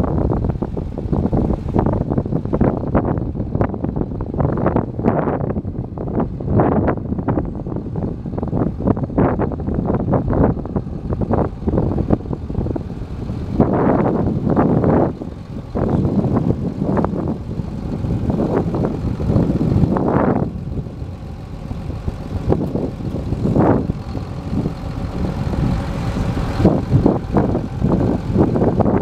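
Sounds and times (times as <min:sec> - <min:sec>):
tractor diesel engine running: 0:00.0 - 0:29.0
wind buffeting microphone: 0:00.0 - 0:29.0.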